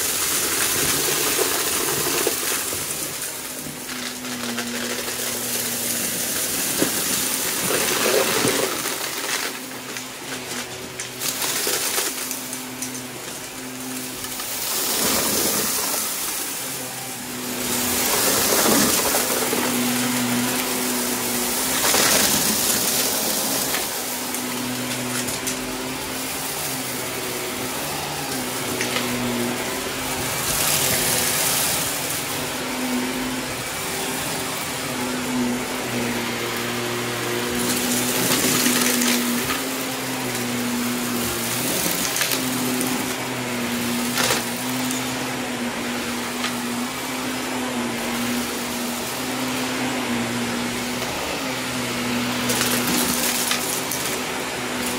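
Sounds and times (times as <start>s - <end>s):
plastic debris clattering in nozzle: 0.0s - 54.9s
upright vacuum cleaner running: 0.0s - 54.9s.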